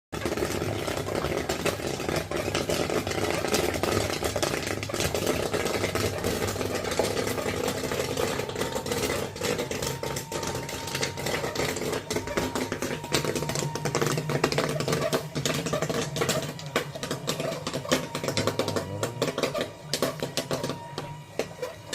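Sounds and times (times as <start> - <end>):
popcorn rattling and clicking: 0.1 - 21.9
small motor hum: 0.2 - 21.9.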